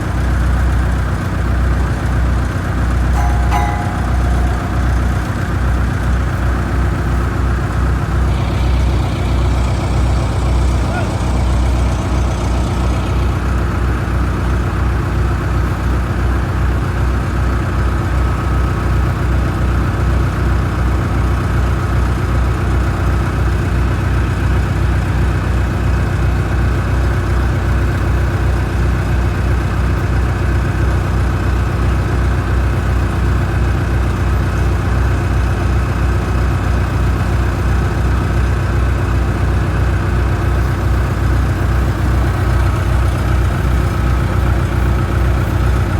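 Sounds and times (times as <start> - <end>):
diesel engine idling: 0.0 - 20.7, 22.4 - 45.9.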